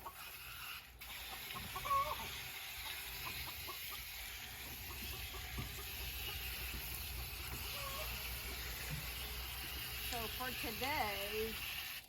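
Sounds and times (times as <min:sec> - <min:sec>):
chickens clucking: 0:00.0 - 0:09.9.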